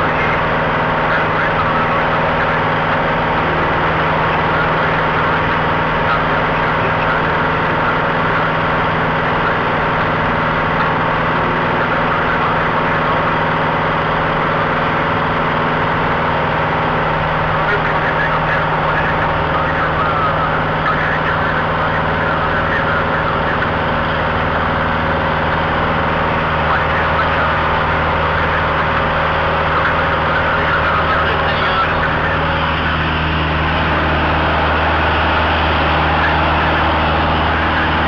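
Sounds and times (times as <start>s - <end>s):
airplane engine and propeller: 0.0s - 38.0s.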